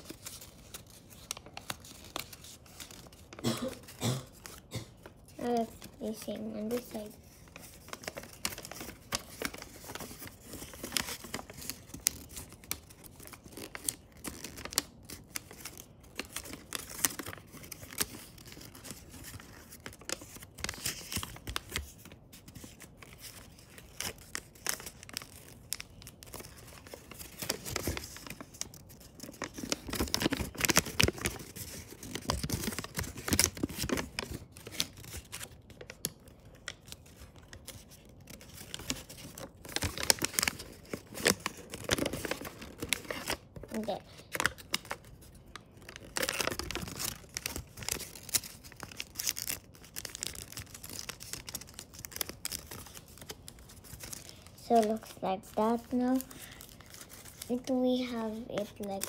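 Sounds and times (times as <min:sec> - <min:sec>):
paper rustling and crinkling: 0:00.0 - 0:59.0.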